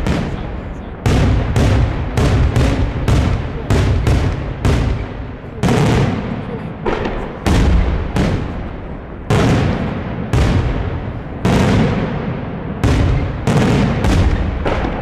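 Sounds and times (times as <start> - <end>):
fireworks bursting with loud bangs: 0.0 - 15.0
rolling echo: 0.0 - 15.0.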